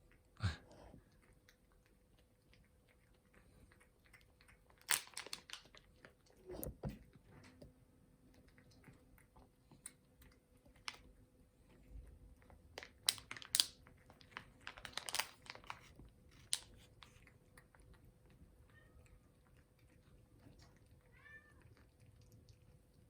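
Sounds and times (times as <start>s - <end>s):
cat chewing crunchy treats: 1.0s - 23.0s.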